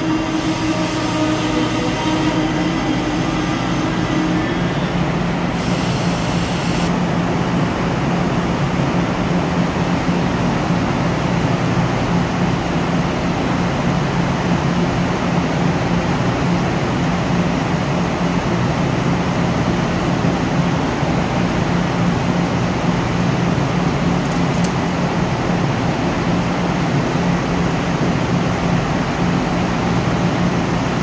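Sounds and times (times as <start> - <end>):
diesel railcar engines idling: 0.0 - 31.0.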